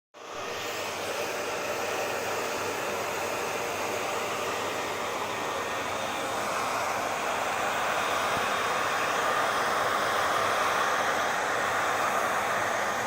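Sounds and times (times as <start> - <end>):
hair dryer running: 0.2 - 13.0.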